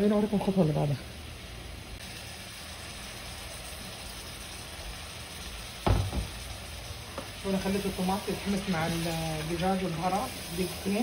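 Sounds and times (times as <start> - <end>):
pot cooking with soft hiss: 0.0 - 11.0.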